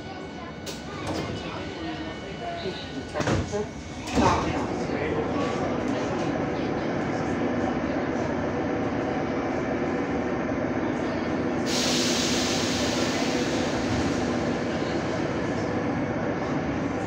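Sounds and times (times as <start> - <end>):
metro train motors rumbling: 0.0 - 17.0.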